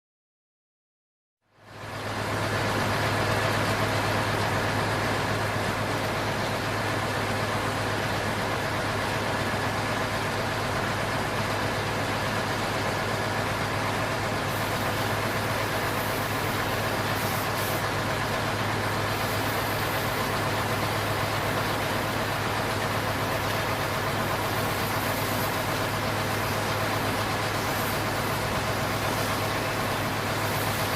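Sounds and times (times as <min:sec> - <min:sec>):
engine-like drone: 0:01.5 - 0:30.9.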